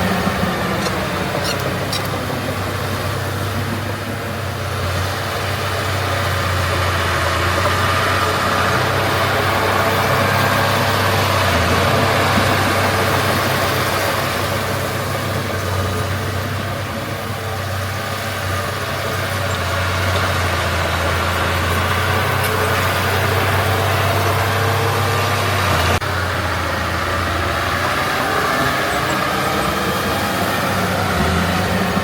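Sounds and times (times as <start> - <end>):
heavy diesel engine humming: 0.0 - 32.0.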